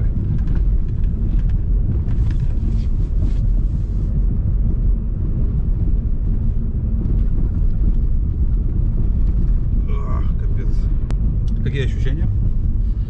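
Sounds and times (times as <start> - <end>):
low rumble of car jolting: 0.0 - 13.0
rattle inside car: 0.0 - 13.0
suspension knocks and clatter: 0.0 - 13.0.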